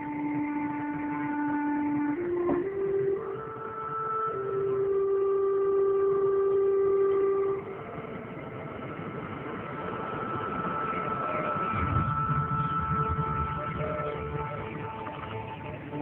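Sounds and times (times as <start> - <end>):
long held tones: 0.0 - 16.0.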